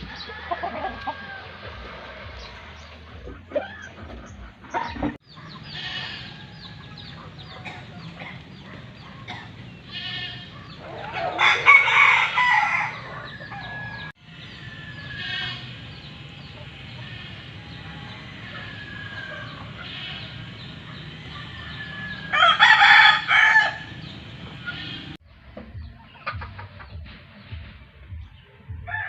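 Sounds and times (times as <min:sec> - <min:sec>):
roosters crowing: 0:00.0 - 0:25.2.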